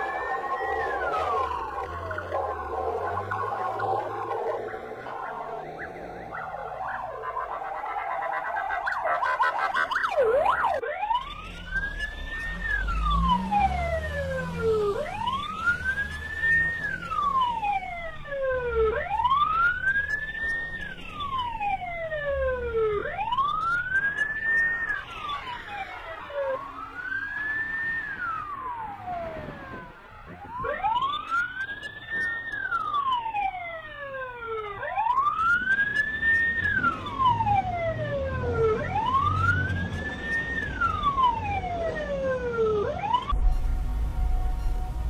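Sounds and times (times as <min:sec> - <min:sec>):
police siren wailing: 0:00.0 - 0:45.0.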